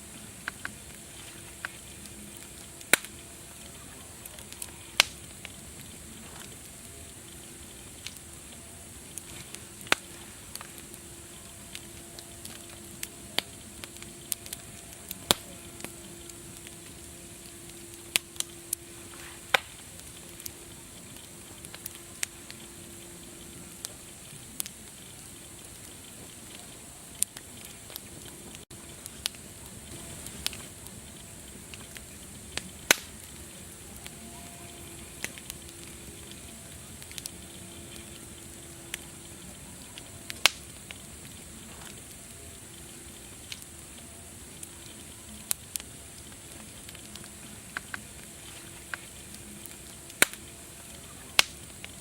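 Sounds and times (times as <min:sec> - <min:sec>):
faint low hum: 0:00.0 - 0:52.0
wood fire crackling: 0:00.0 - 0:52.0.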